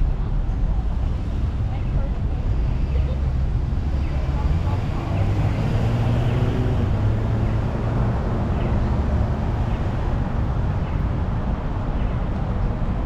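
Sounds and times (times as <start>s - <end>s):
passing traffic: 0.0s - 13.0s
vehicle engine humming: 0.0s - 13.0s.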